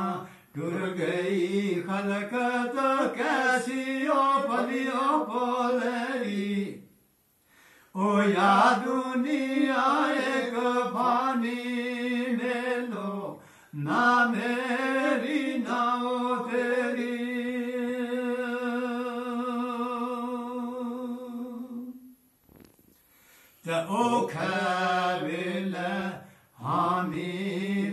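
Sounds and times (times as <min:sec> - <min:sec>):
man singing unaccompanied chant: 0:00.0 - 0:06.9, 0:08.0 - 0:22.1, 0:23.6 - 0:27.9.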